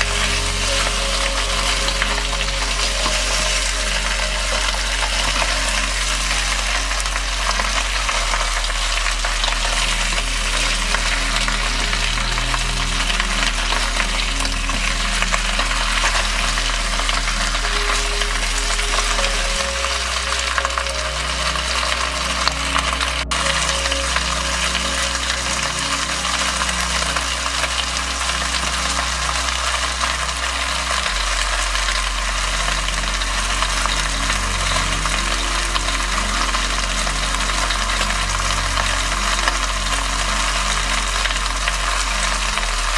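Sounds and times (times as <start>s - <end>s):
meat sizzling in a pot: 0.0s - 42.9s.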